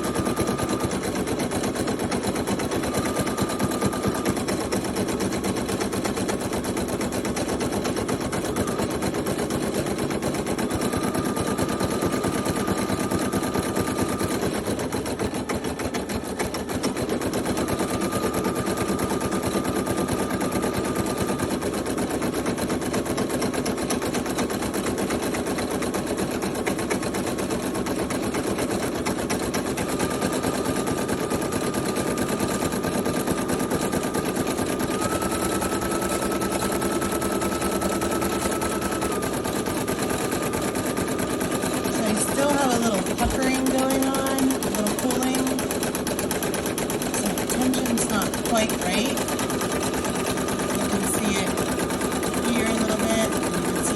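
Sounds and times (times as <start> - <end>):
embroidery machine needle clatter: 0.0 - 53.9.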